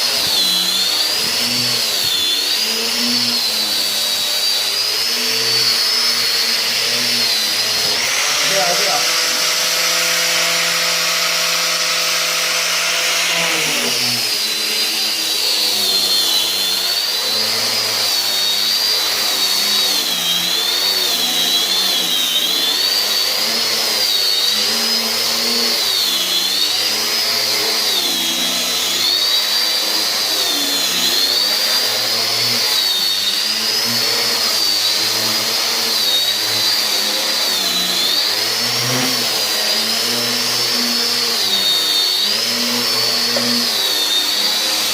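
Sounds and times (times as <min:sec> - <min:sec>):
electric power tool motor: 0:00.0 - 0:44.9.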